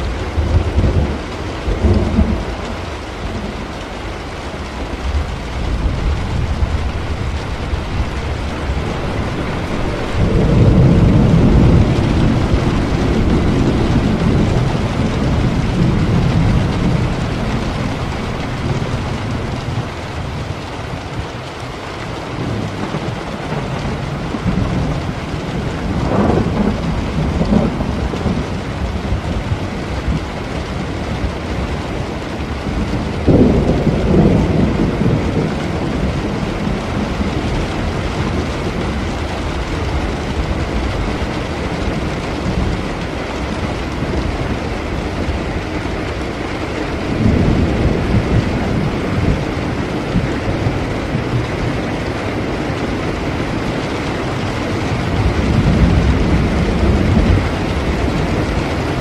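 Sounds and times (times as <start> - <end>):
rolling thunder: 0.0 - 59.0
steady rain: 0.0 - 59.0.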